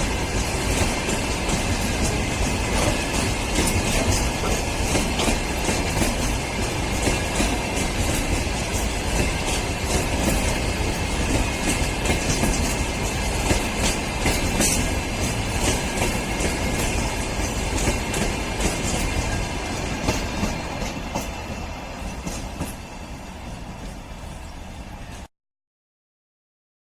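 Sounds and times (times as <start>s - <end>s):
freight train wagons rolling: 0.0s - 25.3s
wheels clicking over rail joints: 0.0s - 25.3s.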